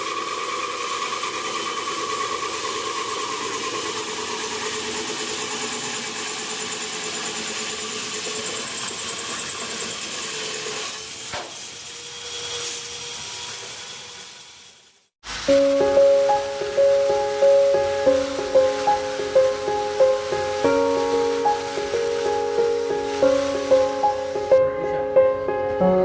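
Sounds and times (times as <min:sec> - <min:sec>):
core drill motor whine: 0:00.0 - 0:24.6
drill grinding: 0:00.0 - 0:24.6.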